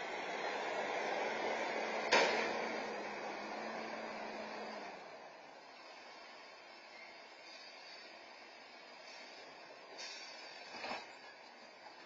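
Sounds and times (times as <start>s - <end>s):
garbage truck driving off: 0.0s - 11.4s.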